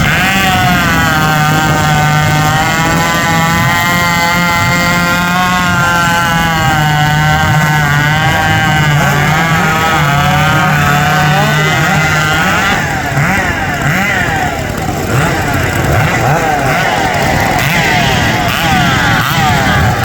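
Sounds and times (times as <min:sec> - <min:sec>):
chainsaw engines revving loudly: 0:00.0 - 0:20.0.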